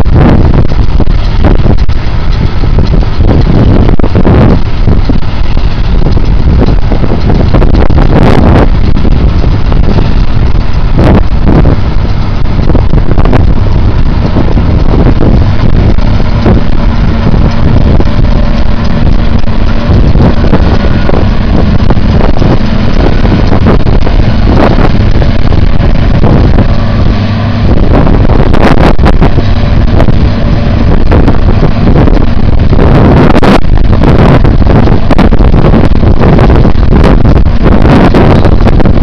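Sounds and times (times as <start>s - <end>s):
tractor engine running: 0.0s - 39.0s
wind buffeting microphone: 0.0s - 39.0s.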